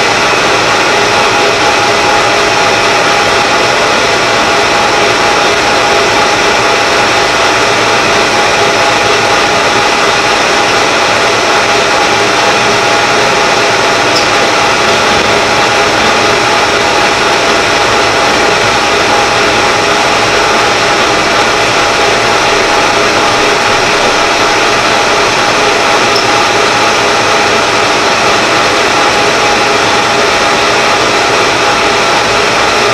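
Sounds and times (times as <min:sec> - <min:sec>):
metal lathe mechanical whine: 0:00.0 - 0:32.9.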